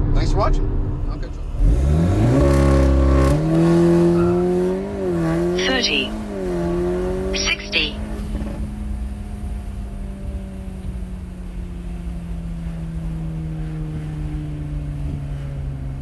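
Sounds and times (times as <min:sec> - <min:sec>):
car engine winding down: 0:00.3 - 0:16.0.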